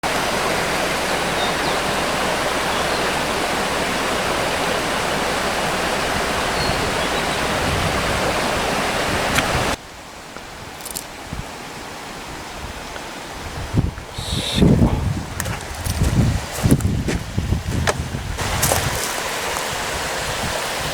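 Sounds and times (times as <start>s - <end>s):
mountain stream rushing: 0.0s - 20.9s.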